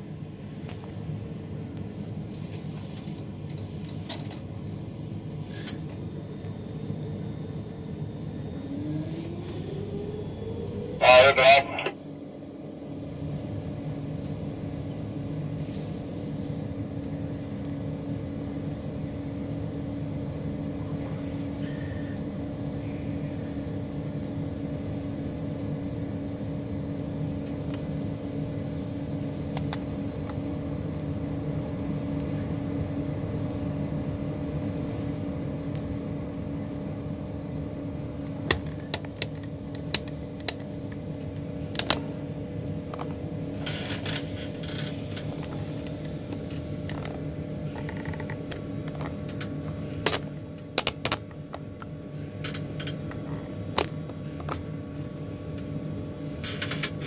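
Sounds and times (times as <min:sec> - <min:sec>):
machinery hum: 0:00.0 - 0:57.0.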